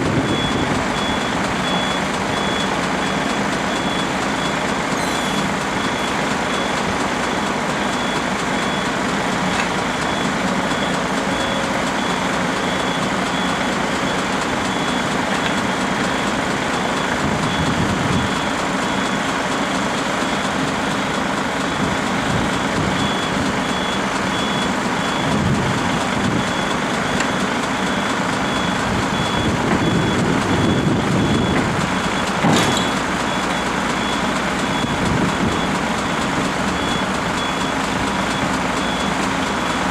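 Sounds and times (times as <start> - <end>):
heavy diesel machinery running: 0.0 - 39.9
reversing alarm beeping: 0.0 - 39.9.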